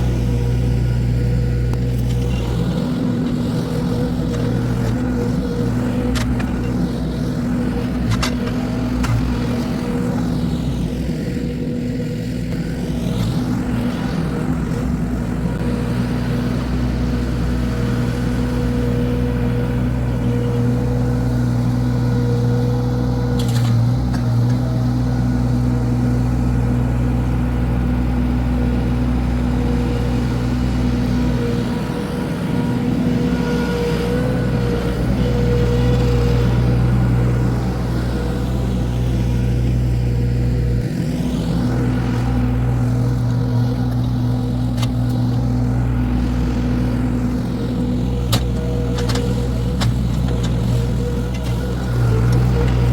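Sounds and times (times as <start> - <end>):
small engine running at high speed: 0.0 - 52.9.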